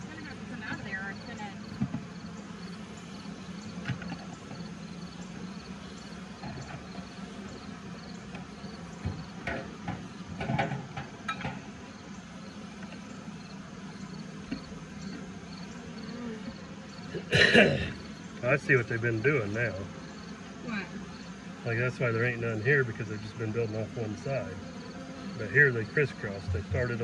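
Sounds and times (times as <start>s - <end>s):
faint high insect chirp: 0.0s - 27.0s
honeybees humming: 0.0s - 27.0s
hive frames knocking and scraping: 0.3s - 20.5s, 21.2s - 27.0s.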